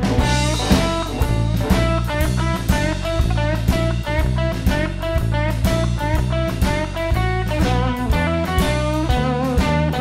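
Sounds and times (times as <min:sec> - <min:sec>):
guitar playing: 0:00.0 - 0:10.0
steady drum beat: 0:00.0 - 0:10.0.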